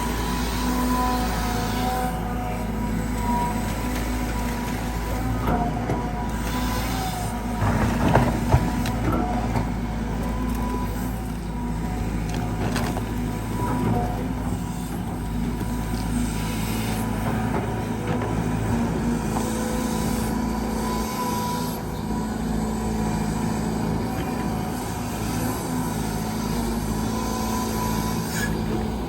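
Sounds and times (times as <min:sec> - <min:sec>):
excavator diesel engine working: 0:00.0 - 0:29.0.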